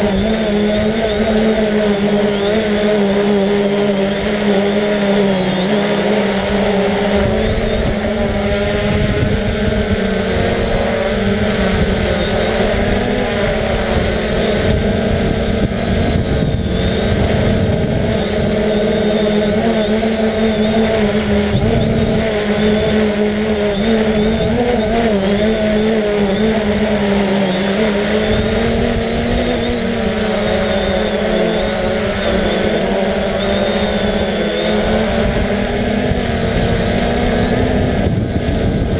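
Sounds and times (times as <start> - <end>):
drone propellers humming: 0.0 - 38.9
wind rumbling on microphone: 0.0 - 38.9.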